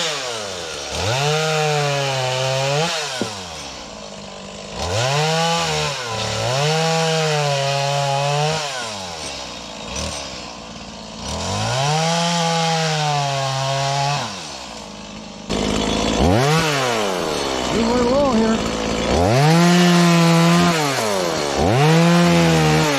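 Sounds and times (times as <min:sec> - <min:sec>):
chainsaw revving and cutting wood: 0:00.0 - 0:22.9.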